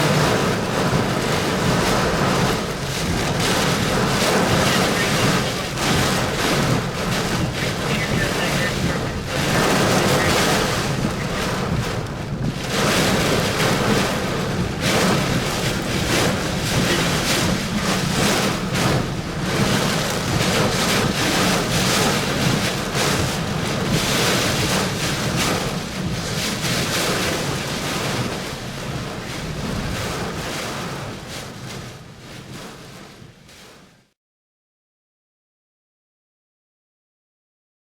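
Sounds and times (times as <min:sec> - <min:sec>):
wind buffeting microphone: 0:00.0 - 0:33.7.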